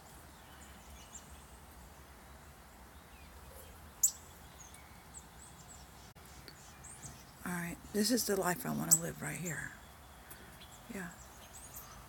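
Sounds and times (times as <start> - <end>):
low outdoor rumble: 0.0 - 12.0
small songbirds chirping: 0.0 - 12.0.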